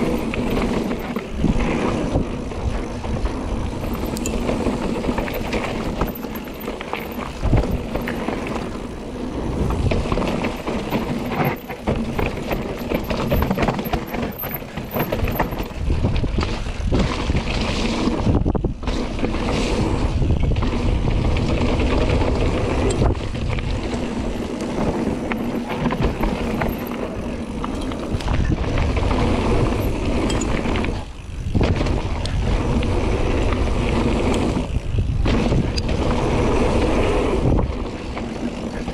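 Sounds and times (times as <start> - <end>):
bike rattling: 0.0 - 38.9
tyres rumbling over dirt: 0.0 - 38.9
wind buffeting microphone: 0.0 - 38.9.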